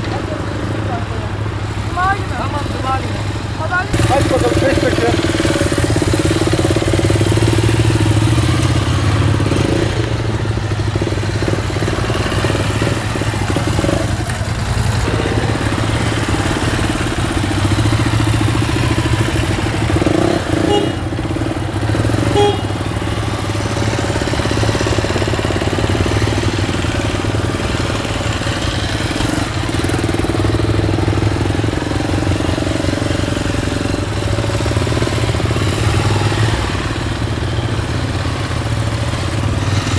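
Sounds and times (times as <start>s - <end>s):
motorcycle engines at low revs: 0.0s - 39.9s.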